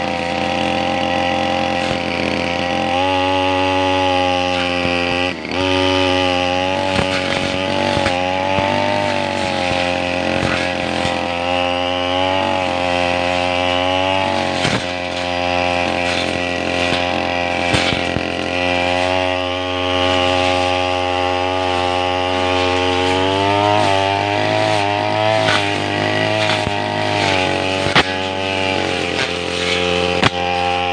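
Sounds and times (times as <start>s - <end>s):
brush cutter engine running: 0.0s - 30.9s
cutting head ticking on stems: 0.0s - 30.9s.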